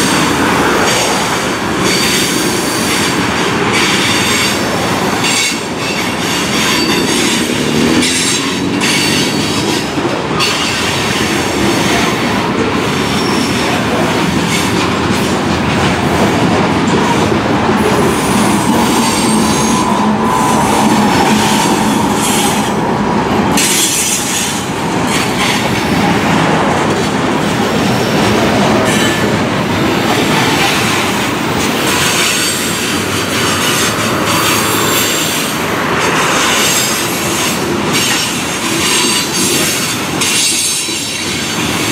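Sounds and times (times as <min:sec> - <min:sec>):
diesel locomotive engine drone: 0:00.0 - 0:41.9
train wheels clattering over rail: 0:00.0 - 0:41.9.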